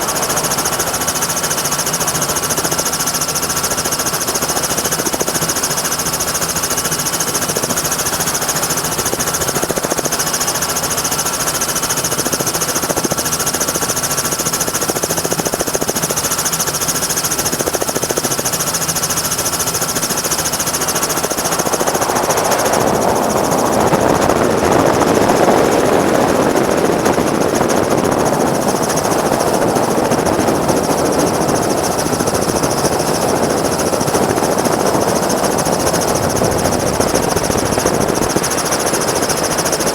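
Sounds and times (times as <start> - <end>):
helicopter rotor chopping: 0.0 - 39.9
turbine whine: 0.0 - 39.9.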